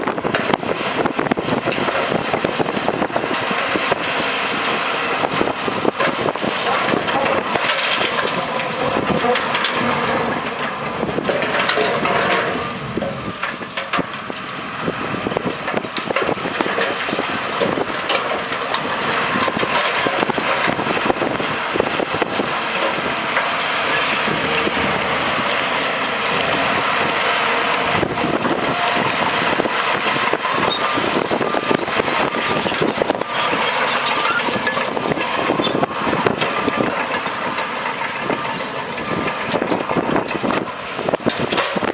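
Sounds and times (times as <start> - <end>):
diesel engine under load: 0.0 - 41.9
clanking and scraping of dirt and rock: 0.1 - 41.9.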